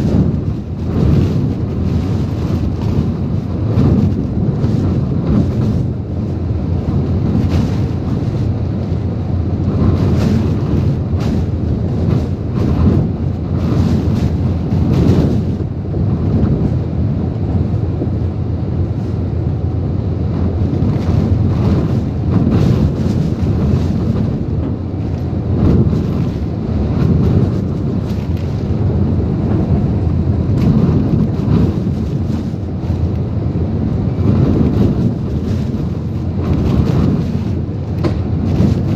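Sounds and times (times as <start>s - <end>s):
driving rain: 0.0s - 38.9s
strong wind roaring: 0.0s - 38.9s
wind buffeting on microphone: 0.0s - 38.9s.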